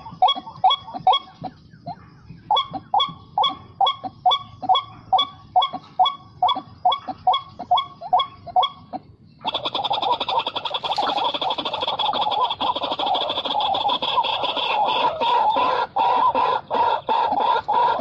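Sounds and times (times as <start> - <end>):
repeated bird call from speaker: 0.0 - 18.0.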